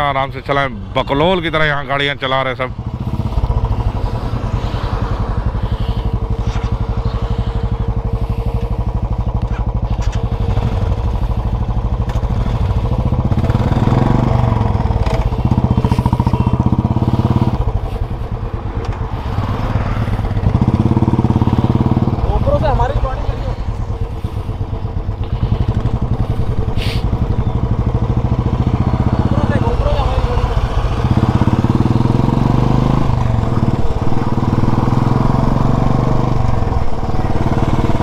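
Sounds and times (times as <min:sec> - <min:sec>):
motorcycle engines idling: 0:00.0 - 0:38.0.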